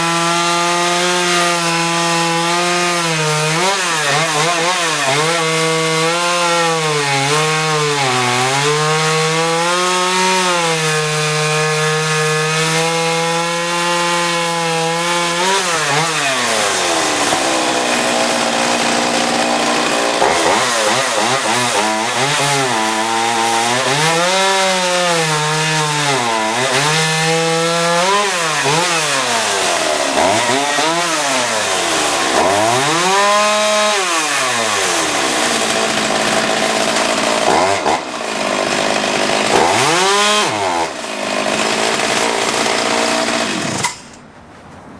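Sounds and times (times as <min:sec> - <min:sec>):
chainsaw cutting wood: 0:00.0 - 0:44.2.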